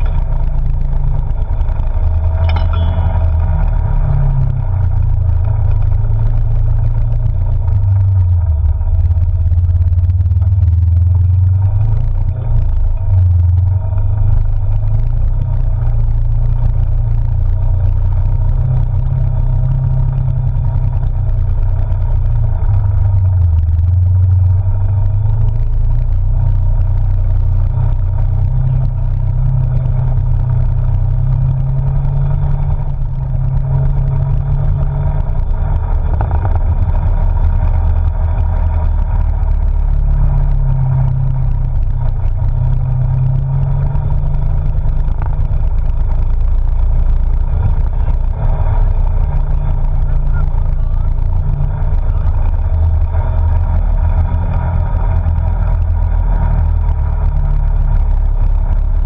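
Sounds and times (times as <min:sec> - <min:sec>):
off-road vehicle engine drone: 0:00.0 - 0:59.0.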